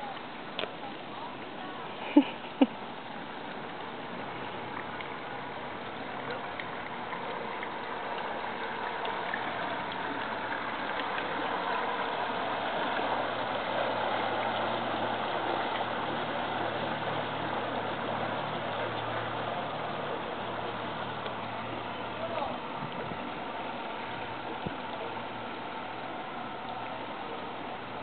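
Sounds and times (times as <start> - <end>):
boat engine humming: 0.0 - 28.0
water churning: 0.0 - 28.0.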